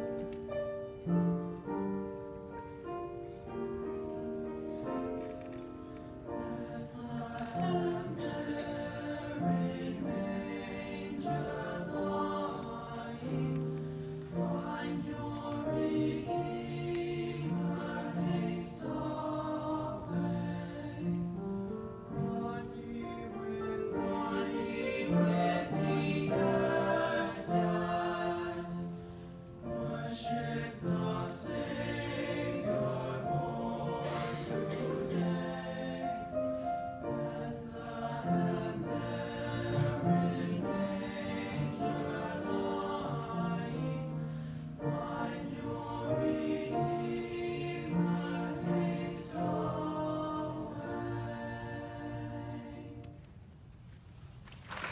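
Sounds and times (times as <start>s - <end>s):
boys' choir singing: 6.4s - 53.2s.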